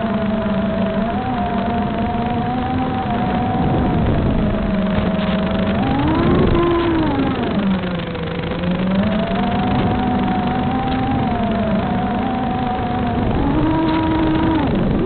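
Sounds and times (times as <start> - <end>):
model aircraft motor whining: 0.0 - 15.0
wind noise: 0.0 - 15.0.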